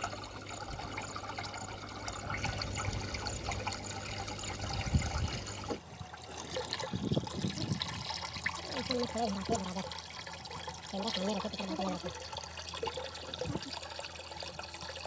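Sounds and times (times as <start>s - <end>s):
pump hum: 0.0s - 15.0s.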